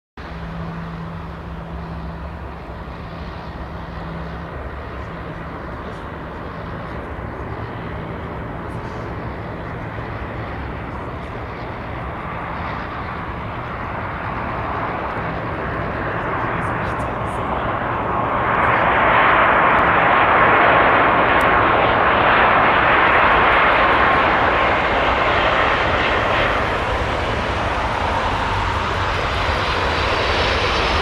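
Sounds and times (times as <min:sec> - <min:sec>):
jet engines droning: 0:00.2 - 0:31.0
steady low hum: 0:00.2 - 0:31.0.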